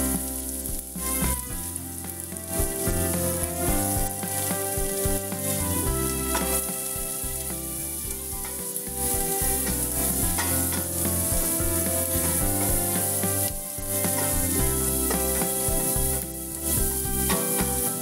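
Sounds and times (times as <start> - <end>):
shallots sizzling in hot oil: 0.0 - 18.0
wooden spatula stirring: 0.0 - 18.0.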